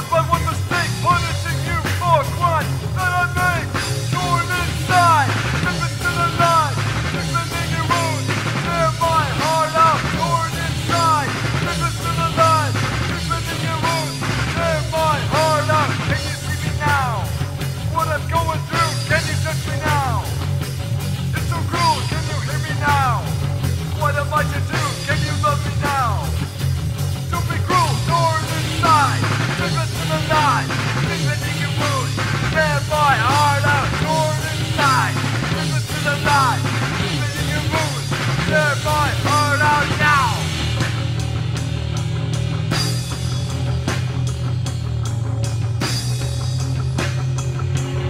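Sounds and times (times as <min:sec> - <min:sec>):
bass line: 0:00.0 - 0:48.0
rock song with band: 0:00.0 - 0:48.0.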